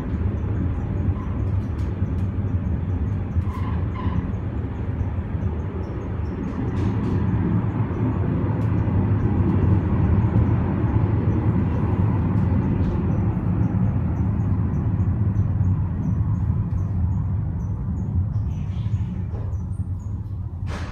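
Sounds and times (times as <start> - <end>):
funicular car rumbling on rails: 0.0 - 20.9.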